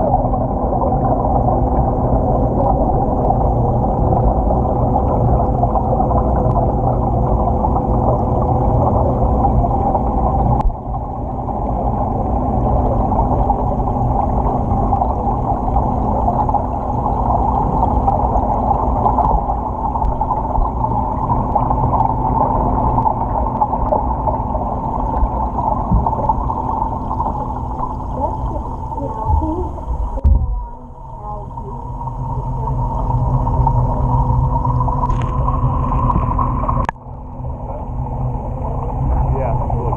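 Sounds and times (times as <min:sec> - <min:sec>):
steady hum: 0:00.0 - 0:39.9
underwater rush of water: 0:00.0 - 0:39.9.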